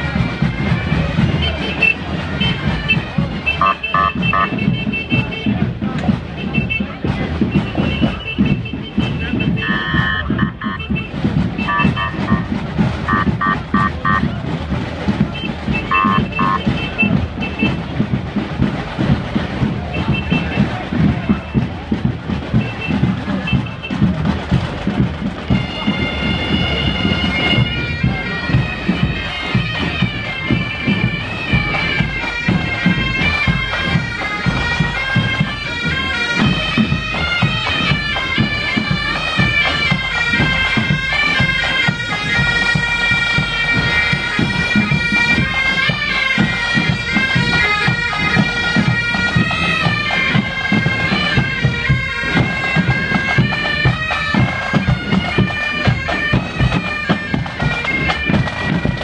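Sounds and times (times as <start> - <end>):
bagpipes playing melody: 0.0 - 59.0
snare and bass drums: 0.0 - 59.0.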